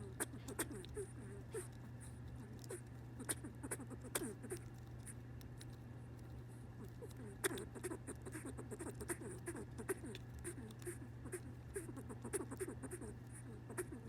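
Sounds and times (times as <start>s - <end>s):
squirrel scratchy rustles: 0.0s - 14.0s.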